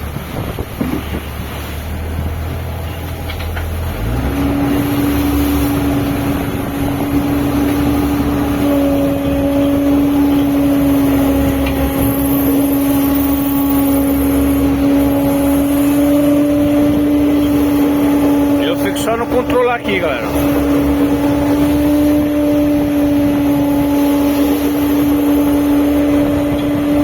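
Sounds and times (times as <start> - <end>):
boat engine humming: 0.0 - 27.0
rush of wind and water: 0.0 - 27.0.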